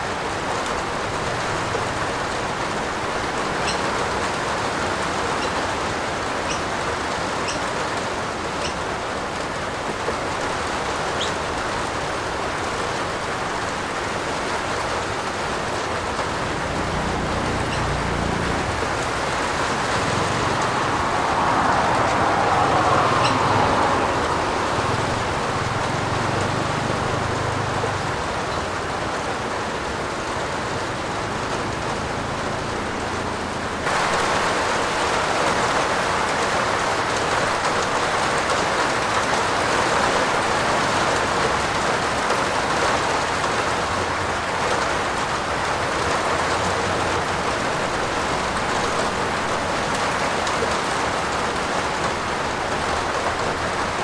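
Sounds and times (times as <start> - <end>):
rain on a roof: 0.0 - 54.0.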